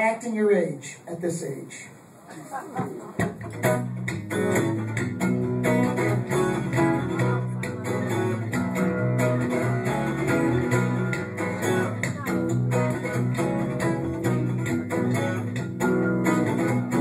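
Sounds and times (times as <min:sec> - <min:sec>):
strummed guitars: 0:03.2 - 0:17.0.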